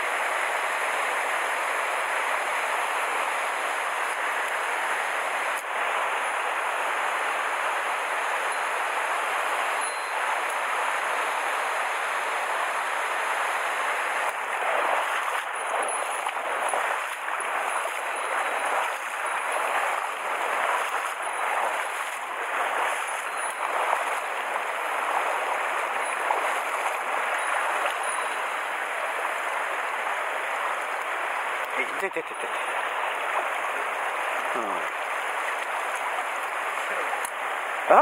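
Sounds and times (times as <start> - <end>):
stream rushing over rocks: 0.0 - 38.0.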